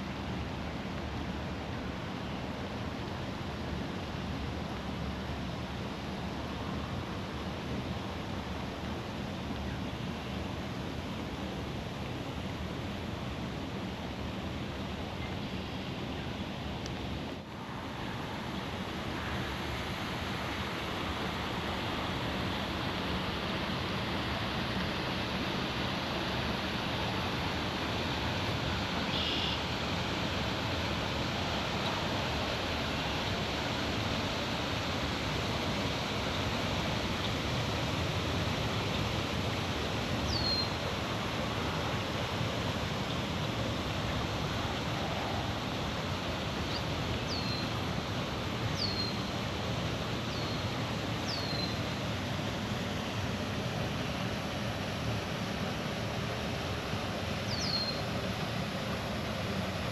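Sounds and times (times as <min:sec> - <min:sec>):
water rushing over dam: 0:00.0 - 0:59.9.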